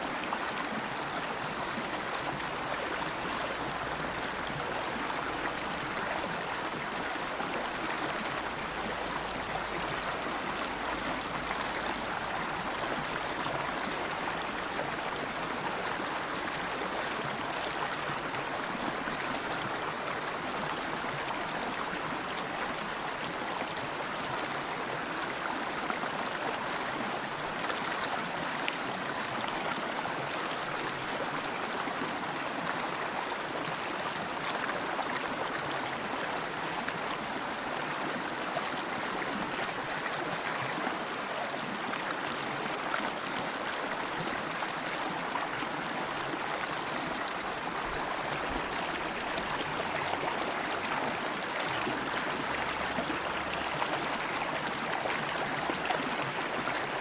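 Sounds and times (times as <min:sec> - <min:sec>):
river water babbling over rocks: 0:00.0 - 0:57.0.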